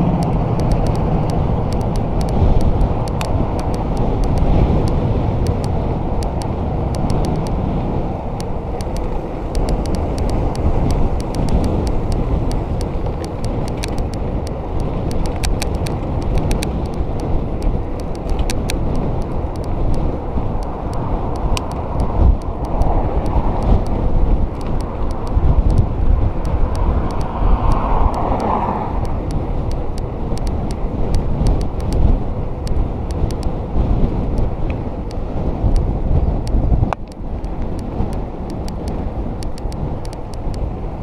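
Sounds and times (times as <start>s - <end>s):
car passing: 0.0s - 36.1s
tyres rumbling on road: 0.0s - 41.0s
wind rushing over microphone: 0.0s - 41.0s
light clicks: 0.2s - 7.6s, 8.4s - 33.5s, 34.3s - 40.7s.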